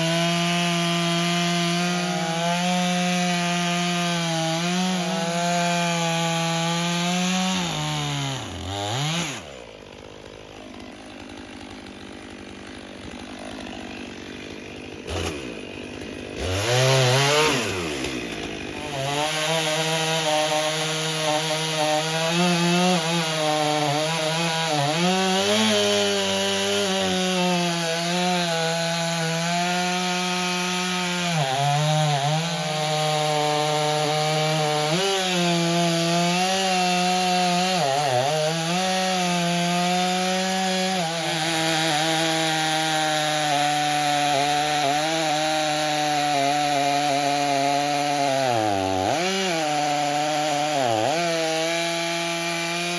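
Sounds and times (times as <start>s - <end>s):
chainsaw cutting through log: 0.0s - 52.9s.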